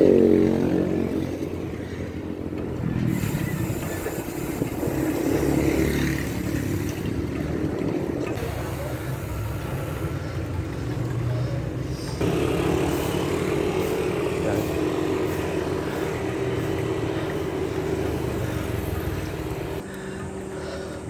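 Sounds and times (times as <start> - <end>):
motorcycle engines running: 0.0 - 21.0
street traffic noise: 0.0 - 21.0.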